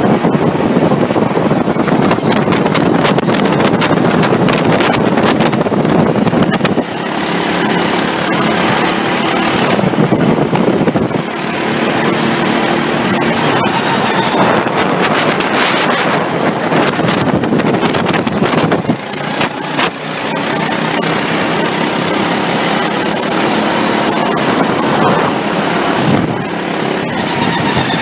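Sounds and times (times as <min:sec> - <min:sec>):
kart engine at full throttle: 0:00.0 - 0:28.0
wind buffeting microphone: 0:00.0 - 0:28.0.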